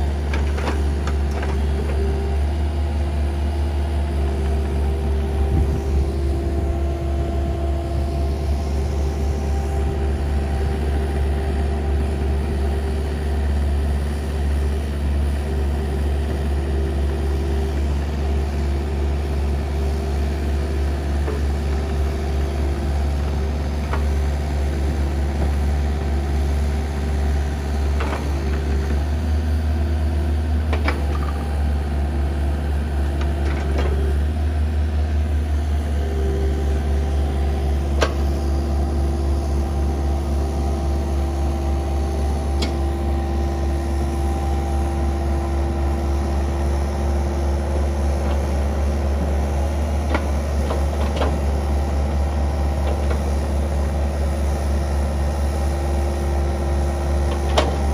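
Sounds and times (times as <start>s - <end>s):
excavator diesel engine droning: 0.0s - 57.9s.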